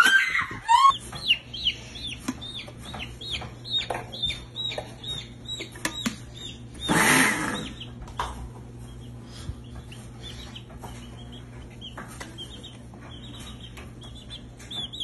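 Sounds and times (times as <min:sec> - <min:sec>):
baby chick peeping: 0:00.0 - 0:15.0.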